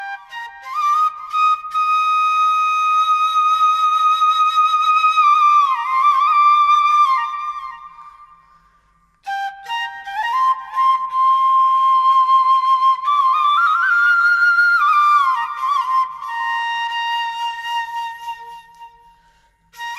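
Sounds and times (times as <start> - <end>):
flute music: 0.0 - 19.9.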